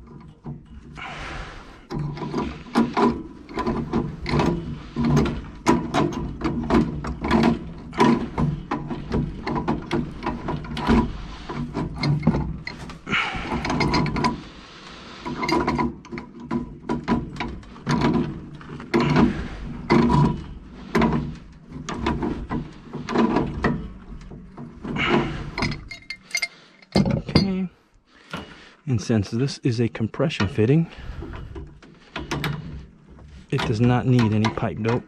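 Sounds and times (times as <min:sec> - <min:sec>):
metal parts and tools knocking: 0:00.0 - 0:28.6, 0:30.4 - 0:35.0.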